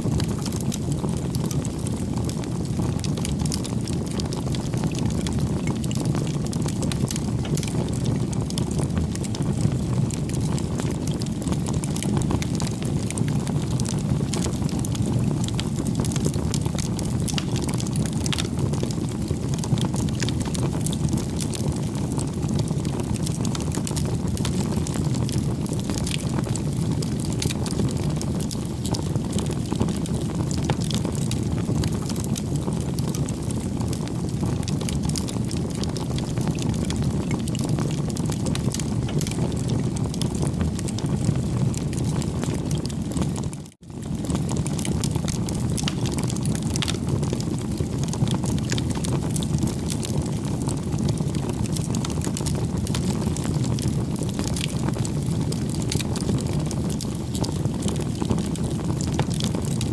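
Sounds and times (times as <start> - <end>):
burning wood crackling: 0.0 - 59.9
low rumble of flame: 0.0 - 59.9.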